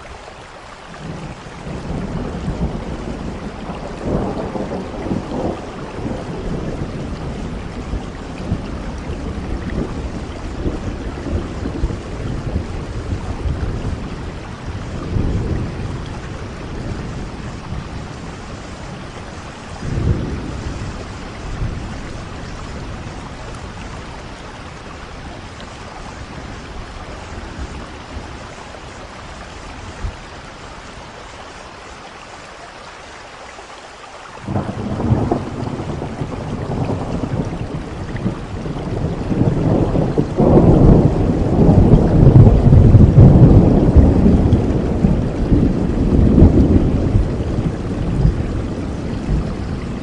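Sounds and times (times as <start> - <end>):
steady rain: 0.0 - 50.0
rolling thunder: 1.0 - 30.4, 34.4 - 50.0.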